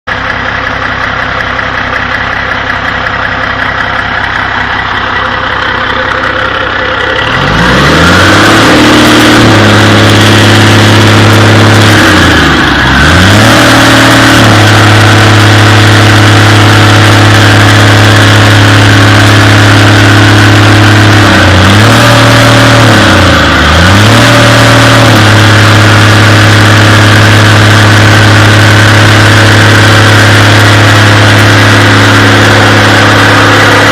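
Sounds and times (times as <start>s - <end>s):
diesel engine revving: 0.1s - 33.9s.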